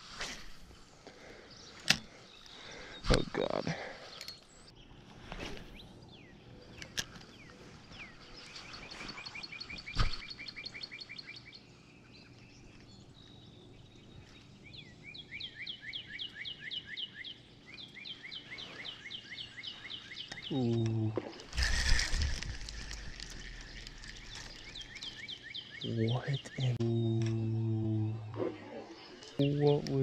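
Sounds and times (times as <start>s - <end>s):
songbirds trilling: 0.6s - 30.0s.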